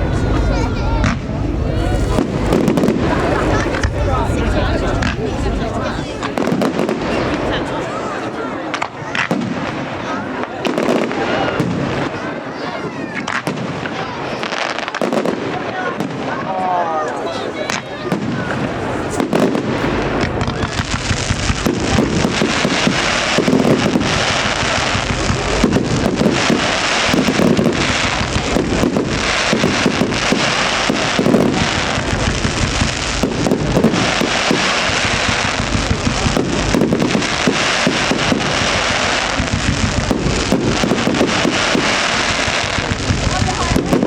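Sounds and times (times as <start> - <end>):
deep firework booms: 0.0 - 16.5, 17.3 - 44.0
fireworks bangs and crackling: 0.0 - 44.0.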